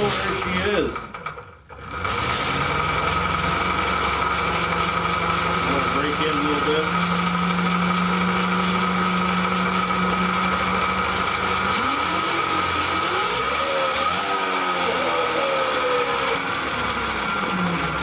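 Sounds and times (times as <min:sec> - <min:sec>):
electric motor whine: 0:01.8 - 0:18.0.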